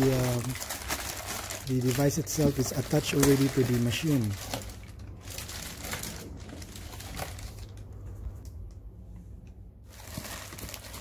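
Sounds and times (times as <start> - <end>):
plastic bags crinkling: 0.0 - 7.9, 9.9 - 11.0.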